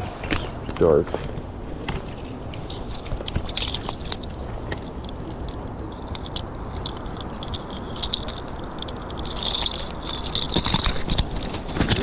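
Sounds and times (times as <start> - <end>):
metal chain rattling and clinking: 1.9 - 12.0.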